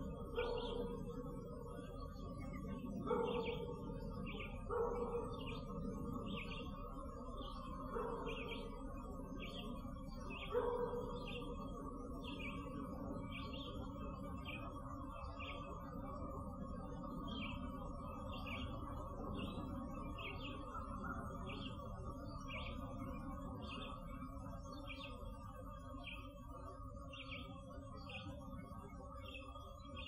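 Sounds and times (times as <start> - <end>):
songbird chirping: 0.0 - 30.0.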